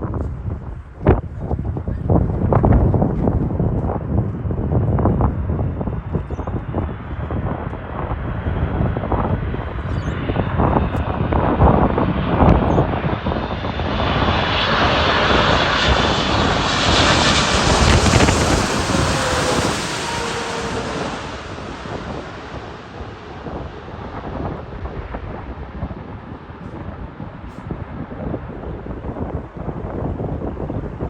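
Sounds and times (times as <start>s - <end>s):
jet engines rushing with whine: 0.2s - 31.0s.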